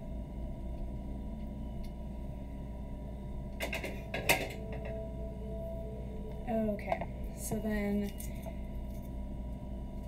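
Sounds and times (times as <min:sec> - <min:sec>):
low kitchen room hum: 0:00.0 - 0:10.0.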